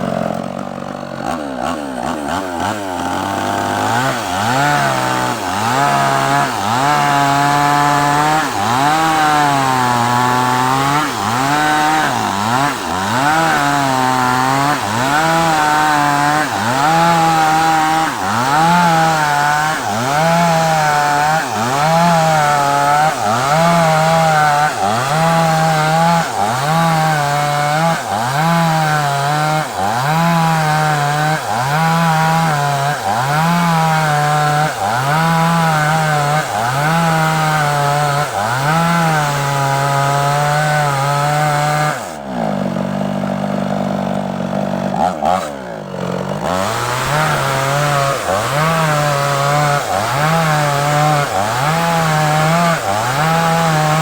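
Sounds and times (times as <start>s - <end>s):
chainsaw cutting a log: 0.0s - 54.0s.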